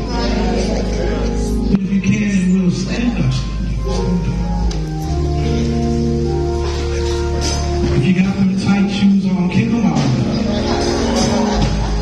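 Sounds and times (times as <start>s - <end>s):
gospel music: 0.0s - 12.0s.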